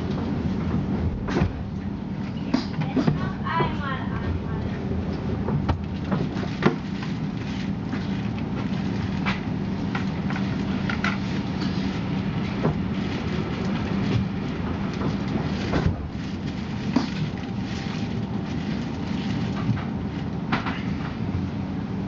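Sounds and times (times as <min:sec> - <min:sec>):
train carriage hum: 0:00.0 - 0:22.0.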